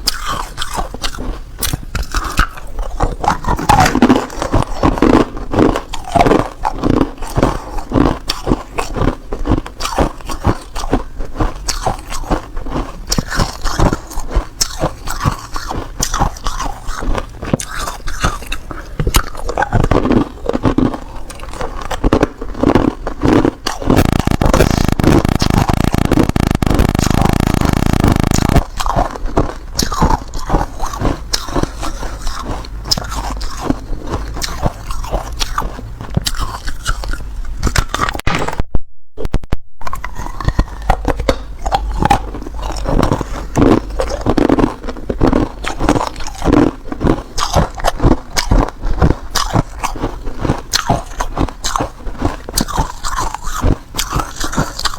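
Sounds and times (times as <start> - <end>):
ice being crunched and chewed: 0.0 - 38.5, 39.8 - 54.9
continuous grinding noise: 0.0 - 38.6, 39.8 - 54.9.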